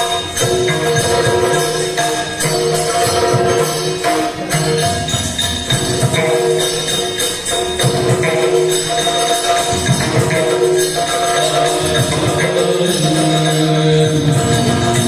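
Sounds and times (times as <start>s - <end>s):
hand cymbals: 0.0s - 15.0s.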